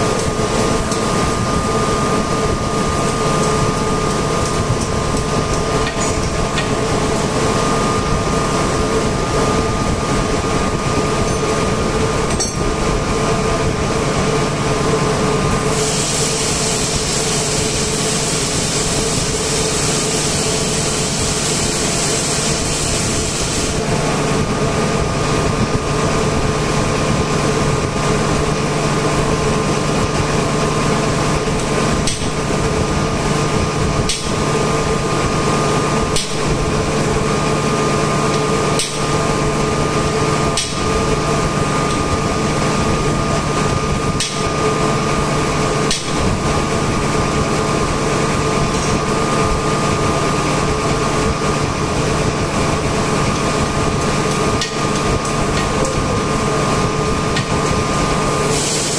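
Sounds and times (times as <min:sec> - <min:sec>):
machinery hum: 0:00.0 - 0:58.9.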